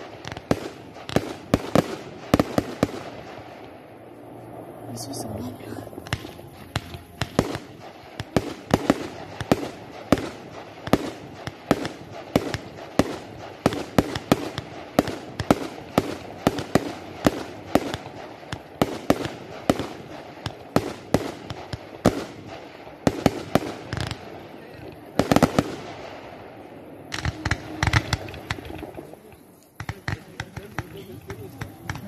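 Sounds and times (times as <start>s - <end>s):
fireworks bangs: 0.0s - 4.0s, 5.0s - 32.0s.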